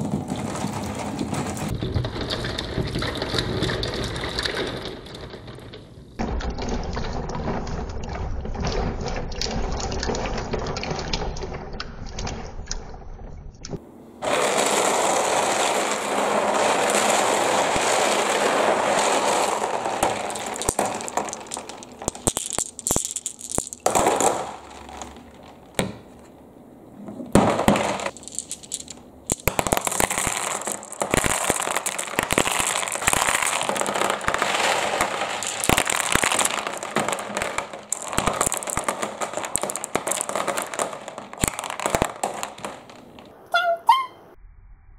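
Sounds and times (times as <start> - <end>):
marbles dropping into water: 0.0 - 12.4, 14.2 - 26.1, 27.4 - 43.3
glass marbles clattering down wooden track: 0.0 - 12.5, 14.2 - 26.2, 27.3 - 43.4.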